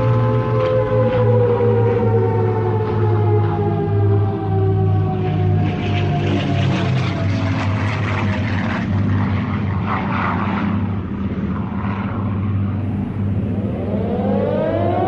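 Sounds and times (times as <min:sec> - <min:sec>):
falling siren tone: 0:00.0 - 0:10.2, 0:12.7 - 0:15.0
propeller aircraft engines droning: 0:00.0 - 0:15.0.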